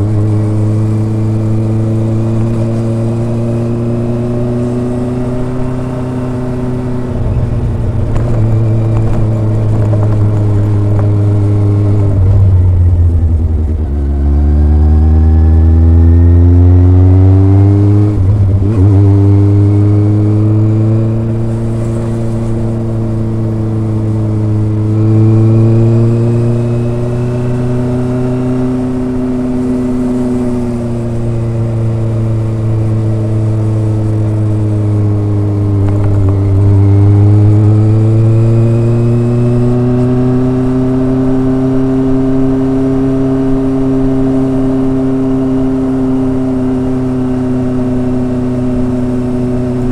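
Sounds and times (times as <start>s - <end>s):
motorcycle exhaust revving: 0.0s - 49.9s.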